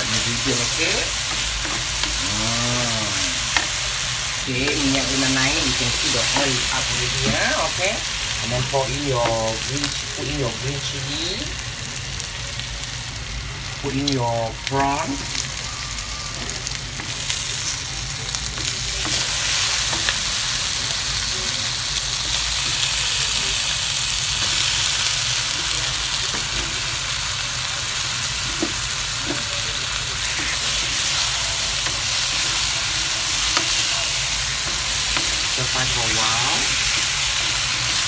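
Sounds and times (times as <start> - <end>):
prawns sizzling in oil: 0.0 - 38.0.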